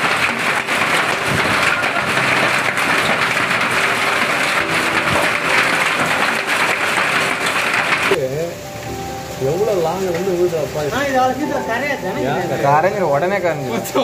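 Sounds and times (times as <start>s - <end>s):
hail and rain on pavement: 0.0s - 14.0s.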